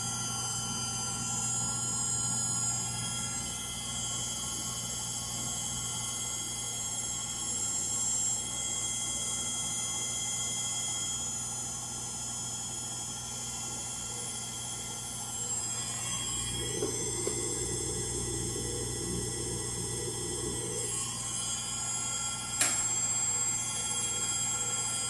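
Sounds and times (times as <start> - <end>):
washing machine spinning with whine: 0.0 - 25.0.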